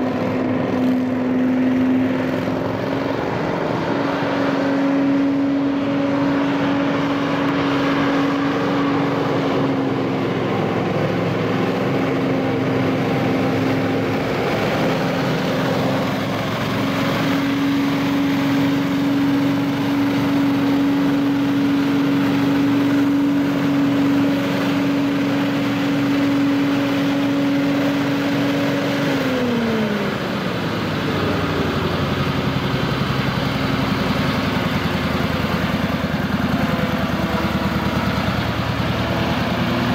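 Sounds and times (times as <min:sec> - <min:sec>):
blower engine and fan running: 0:00.0 - 0:39.9.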